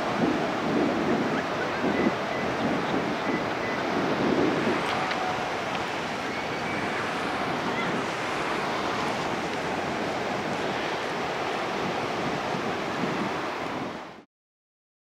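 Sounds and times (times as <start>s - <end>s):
ocean surf breaking: 0.0s - 14.2s
wind on microphone: 0.0s - 14.2s.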